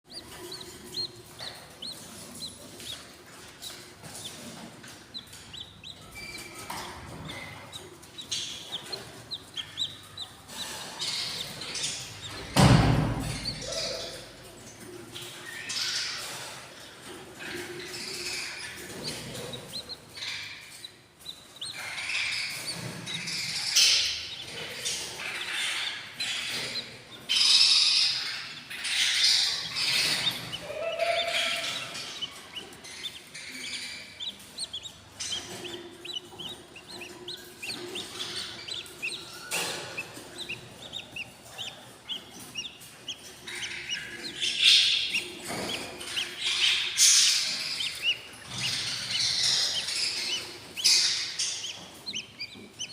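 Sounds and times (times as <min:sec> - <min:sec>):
chicks chirping and cheeping: 0:00.0 - 0:52.9.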